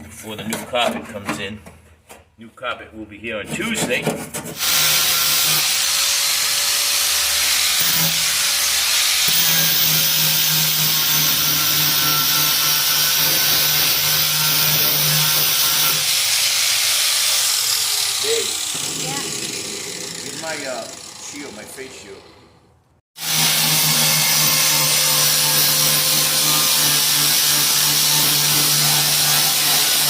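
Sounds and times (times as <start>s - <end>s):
electric grinder on metal: 4.6s - 22.4s, 23.2s - 30.0s.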